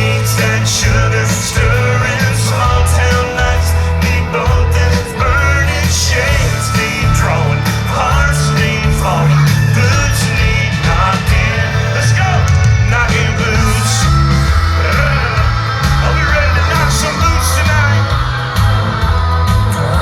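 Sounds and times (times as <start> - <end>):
country-rock band playing: 0.0 - 20.0
voices singing and yelling: 0.0 - 20.0.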